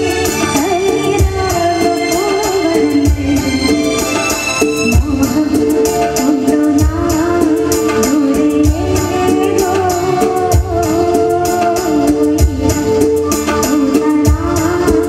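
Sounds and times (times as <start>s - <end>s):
drum kit beat: 0.0s - 15.0s
electronic keyboards: 0.0s - 15.0s
woman singing into microphone: 0.0s - 15.0s.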